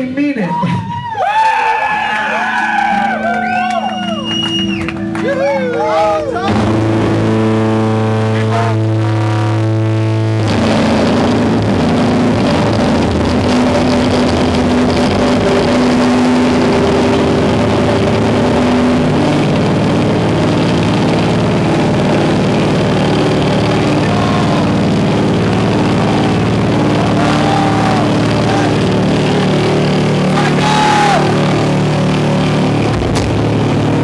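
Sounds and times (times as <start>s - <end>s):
loud noise rock band: 0.8s - 34.0s.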